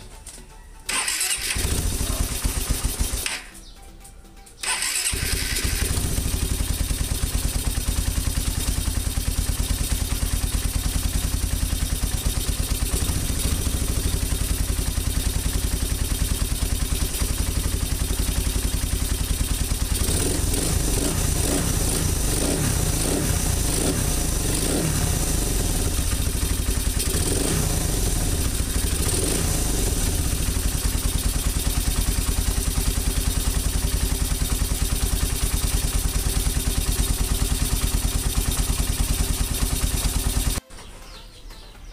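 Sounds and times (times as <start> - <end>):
motorcycle engine idling: 0.9 - 3.7, 4.6 - 40.6
engine throttle blips: 4.6 - 40.6.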